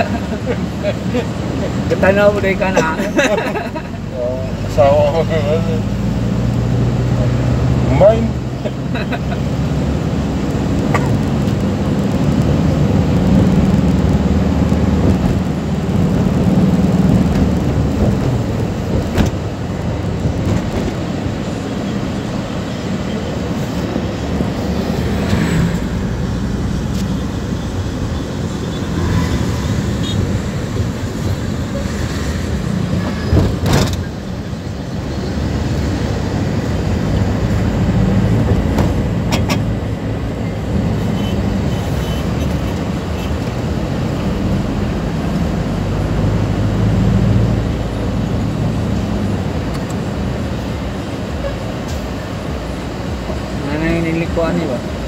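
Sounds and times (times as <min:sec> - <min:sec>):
van road and engine rumble: 0:00.0 - 0:55.0.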